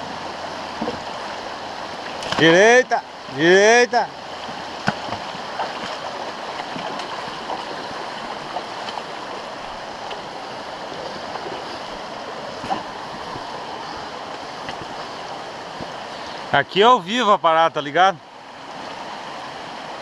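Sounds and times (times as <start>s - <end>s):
stream water splashing: 0.0s - 20.0s.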